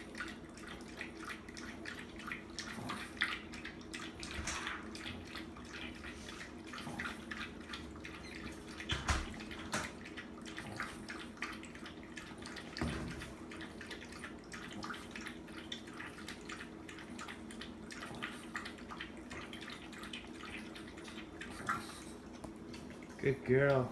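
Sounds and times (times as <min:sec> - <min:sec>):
dog lapping water: 0:00.0 - 0:23.9.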